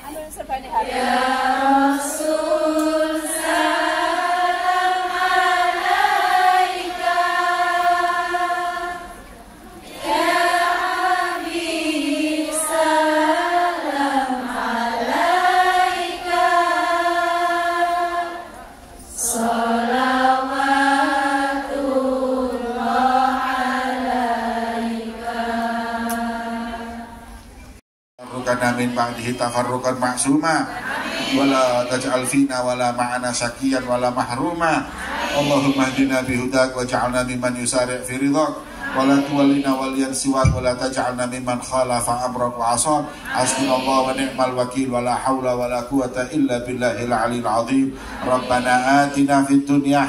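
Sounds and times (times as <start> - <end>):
many voices singing in unison: 0.8 - 27.5, 28.2 - 50.0.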